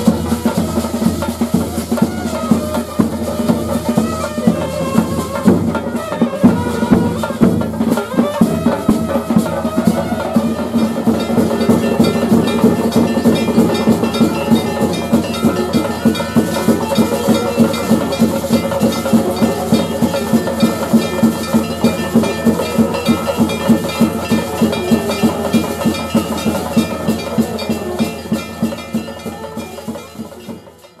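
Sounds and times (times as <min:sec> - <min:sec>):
drums beating fast rhythm: 0:00.0 - 0:31.0
hand cymbals ringing: 0:00.0 - 0:31.0.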